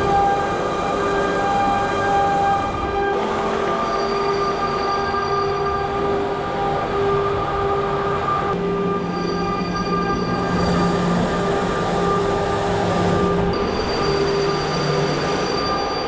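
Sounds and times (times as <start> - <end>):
milling machine whine: 0.0 - 16.0.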